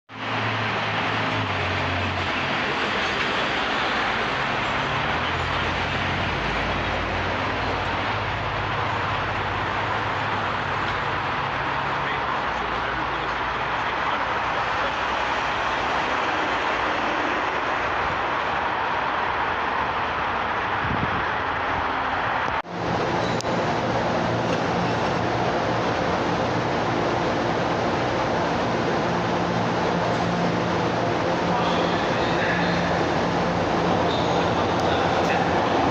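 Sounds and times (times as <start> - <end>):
train wheel and track noise: 0.1 - 35.9.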